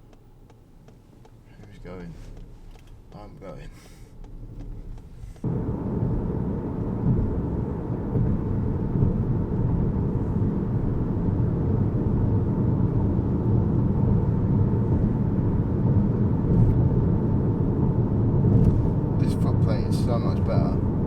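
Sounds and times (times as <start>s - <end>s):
car rumbling on the move: 0.0s - 21.0s.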